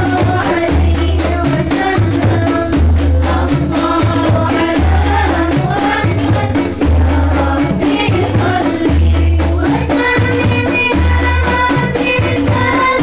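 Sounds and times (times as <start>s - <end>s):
quick frame drum strokes: 0.0s - 13.0s
women singing together: 0.0s - 13.0s.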